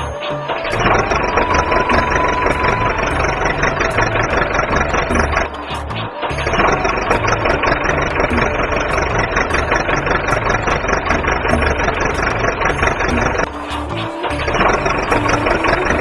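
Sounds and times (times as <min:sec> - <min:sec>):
background music with a beat: 0:00.0 - 0:16.0
engine running: 0:00.0 - 0:16.0.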